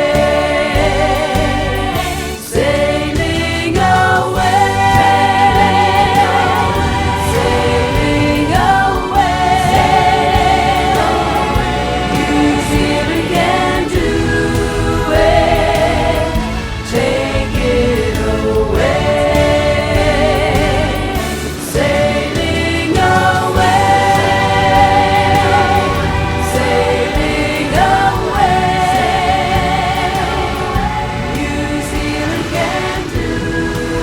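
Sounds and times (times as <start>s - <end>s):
choir singing: 0.0s - 34.0s
steady beat: 0.0s - 34.0s.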